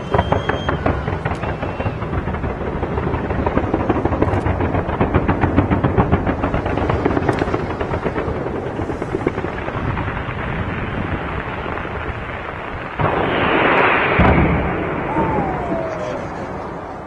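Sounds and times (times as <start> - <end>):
firework heavy boom: 0.0 - 17.0
fireworks bangs and crackles: 0.0 - 17.0.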